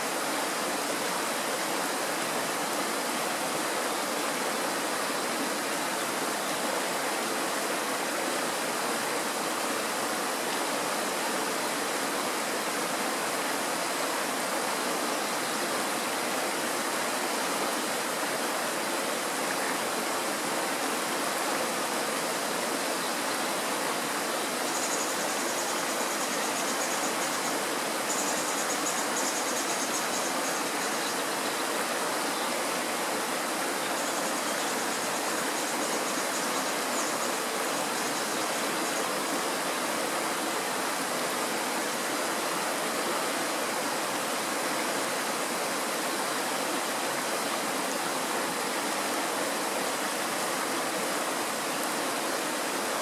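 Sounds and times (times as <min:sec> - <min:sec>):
stream rushing over stones: 0:00.0 - 0:53.0.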